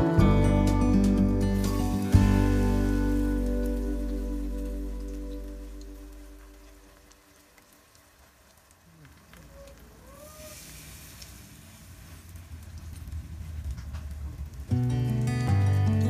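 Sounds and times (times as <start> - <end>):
patties sizzling in oil: 1.2 - 16.0.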